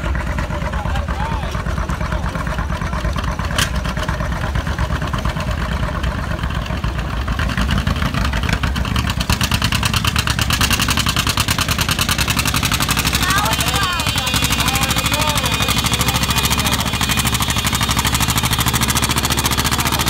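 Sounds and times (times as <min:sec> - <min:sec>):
tractor engine working under load: 0:00.0 - 0:20.0.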